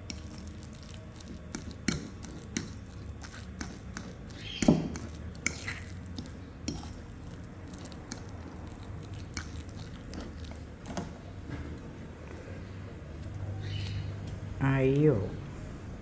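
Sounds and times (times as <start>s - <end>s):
dough squishing in a bowl: 0.0s - 14.6s.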